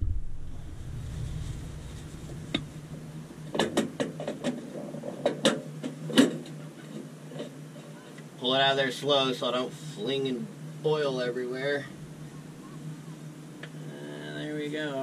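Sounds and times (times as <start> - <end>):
faint low hum: 0.0 - 4.4, 7.3 - 15.0.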